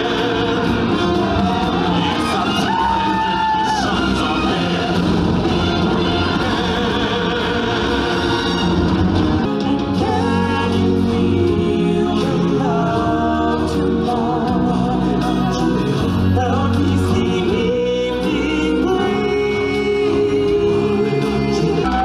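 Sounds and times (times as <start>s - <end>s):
backing voices: 0.0s - 22.0s
musical accompaniment: 0.0s - 22.0s.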